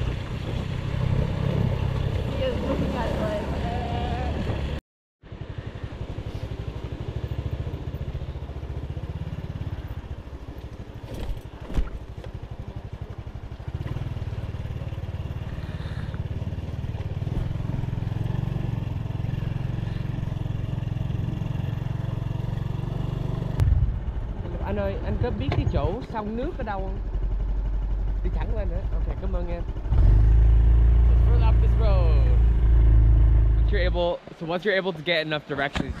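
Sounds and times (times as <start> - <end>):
motorbike engine running: 0.0 - 33.9.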